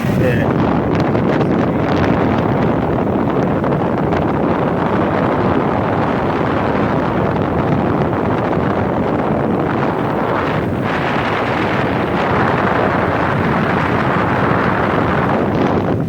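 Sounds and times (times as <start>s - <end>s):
air conditioner fan blowing: 0.0s - 16.0s.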